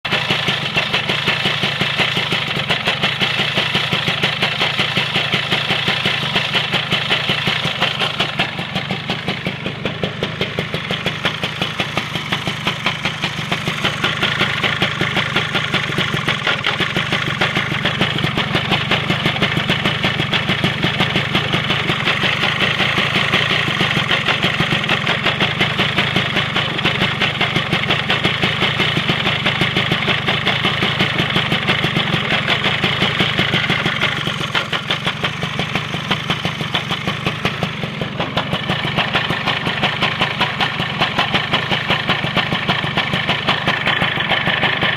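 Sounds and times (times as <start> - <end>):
rhythmic slapping from engine: 0.0 - 44.9
scooter engine running: 0.0 - 44.9.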